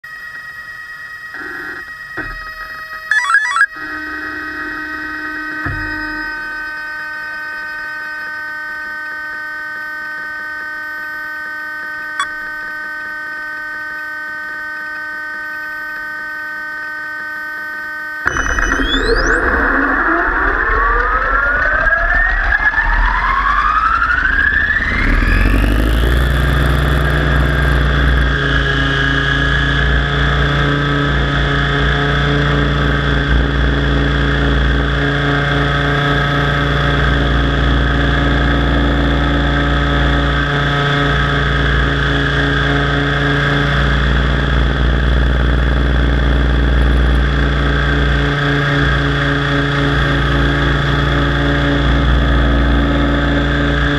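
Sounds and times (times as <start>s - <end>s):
rc helicopter motor whine: 0.1s - 53.9s.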